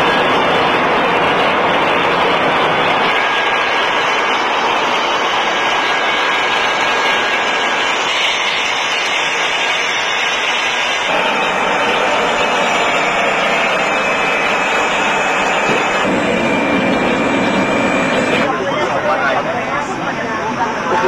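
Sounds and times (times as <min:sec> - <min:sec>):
airliner engines roaring: 0:00.0 - 0:21.0
faint high engine whine: 0:00.0 - 0:21.0.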